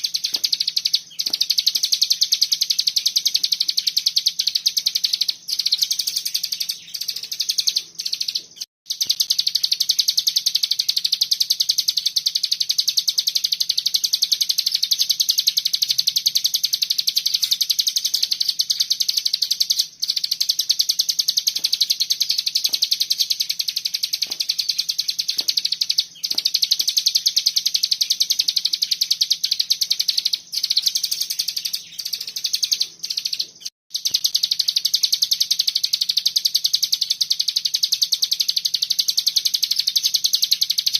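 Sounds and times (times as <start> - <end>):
songbird rapid trill: 0.0 - 40.9.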